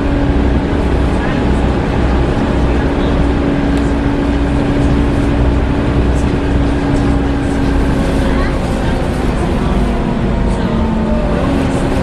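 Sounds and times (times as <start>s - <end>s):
bus cooling fan humming: 0.0s - 12.0s
bus engine rumble: 0.0s - 12.0s
bus moving noise: 0.0s - 12.0s.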